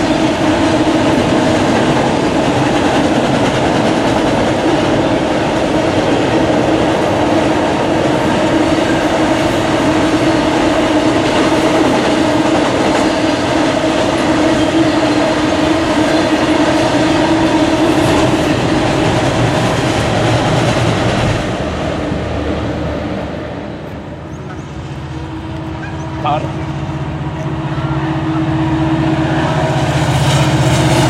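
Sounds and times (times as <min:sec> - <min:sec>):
train wheels rumbling on bridge: 0:00.0 - 0:31.0.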